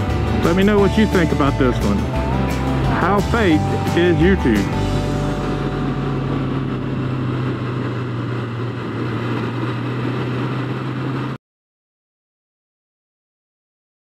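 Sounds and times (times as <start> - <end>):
motorcycle engine hum: 0.0 - 11.4
wind and road noise: 0.0 - 11.4.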